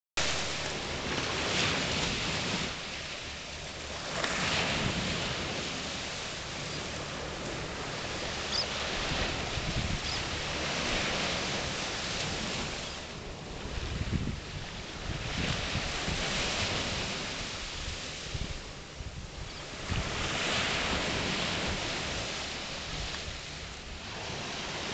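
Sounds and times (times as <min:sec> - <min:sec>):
surf waves washing onto sand: 0:00.2 - 0:24.9
wind buffeting microphone: 0:00.8 - 0:24.9.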